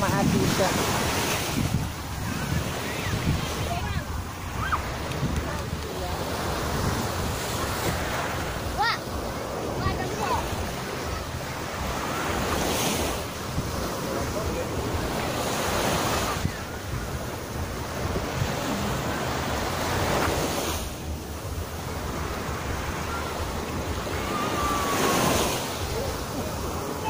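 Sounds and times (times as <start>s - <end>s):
waves washing onto beach: 0.0s - 27.0s
wind buffeting microphone: 0.0s - 27.0s.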